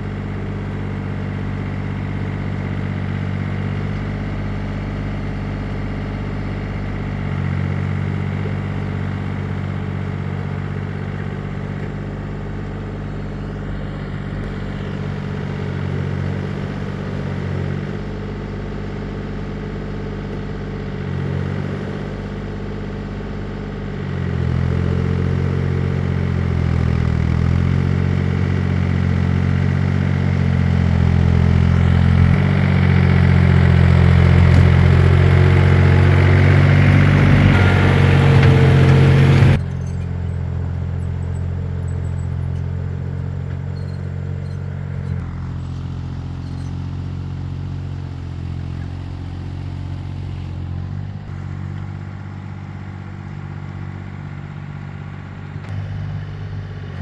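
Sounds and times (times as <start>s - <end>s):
farm machine engine running: 0.0s - 57.0s.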